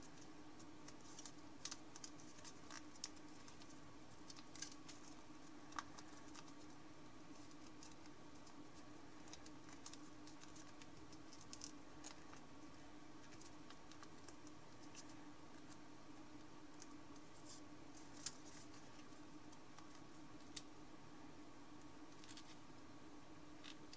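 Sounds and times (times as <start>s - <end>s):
paper crackling and clicking: 0.0s - 12.5s, 13.2s - 15.8s, 16.7s - 20.7s, 22.1s - 22.6s
faint steady hum: 0.0s - 23.9s.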